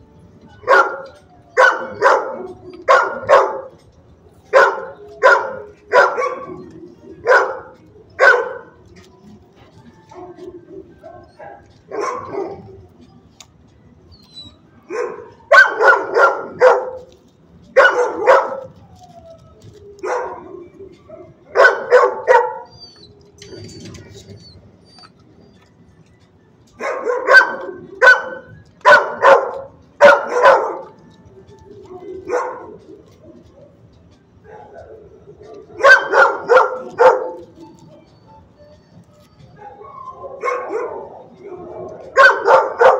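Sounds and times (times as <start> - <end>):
dogs barking: 0.5 - 42.9.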